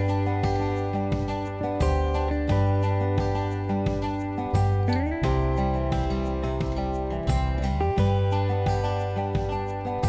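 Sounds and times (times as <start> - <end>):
acoustic guitar strumming: 0.0 - 10.0
bass line: 0.0 - 10.0
steady beat: 0.0 - 10.0.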